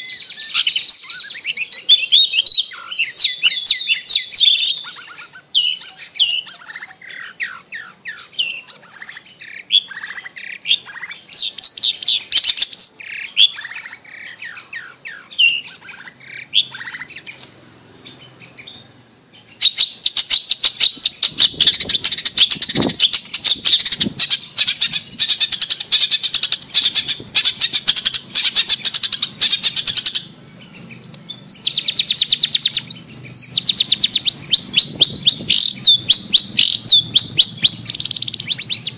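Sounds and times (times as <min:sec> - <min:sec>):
shrike singing: 0:00.0 - 0:38.9.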